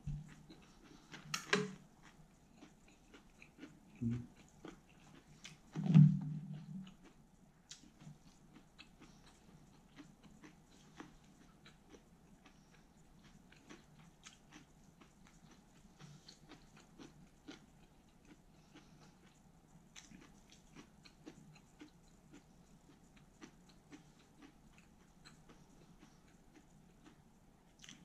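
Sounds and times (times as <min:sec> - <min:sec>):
close-up chewing with crunches: 0:00.0 - 0:28.0.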